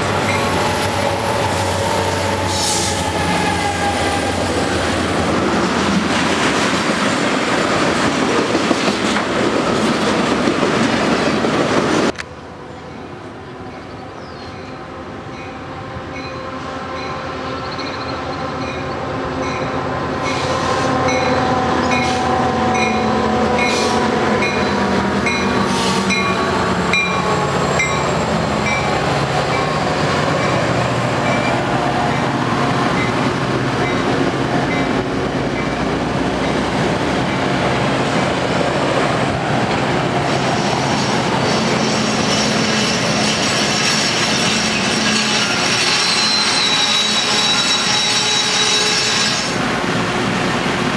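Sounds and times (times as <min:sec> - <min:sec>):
train passing: 0:00.0 - 0:50.9.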